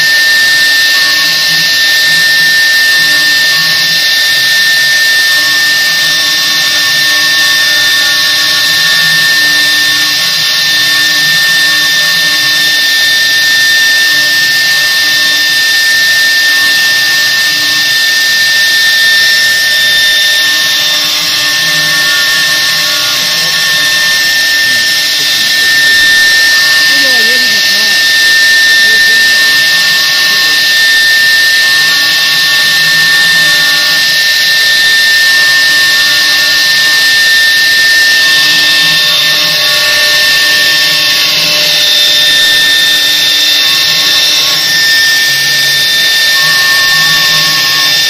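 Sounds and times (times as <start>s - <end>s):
router spindles whining: 0.0s - 48.0s.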